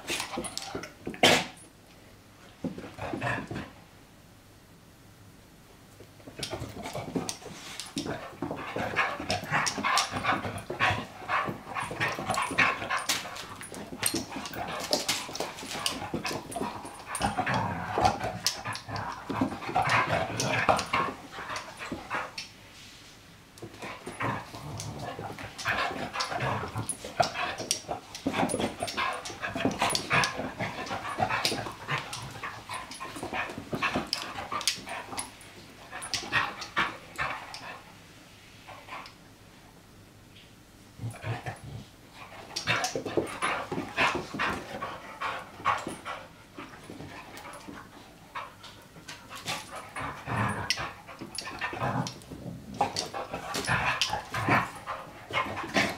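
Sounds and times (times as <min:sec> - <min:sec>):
dogs play-fighting and vocalising: 0:00.0 - 0:01.7, 0:02.6 - 0:03.8, 0:06.2 - 0:22.6, 0:23.6 - 0:39.4, 0:40.9 - 0:55.9.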